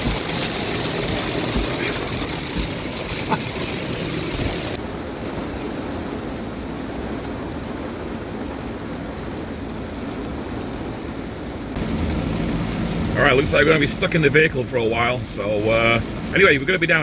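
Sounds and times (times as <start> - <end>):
heavy rain on a vehicle: 0.0 - 17.0.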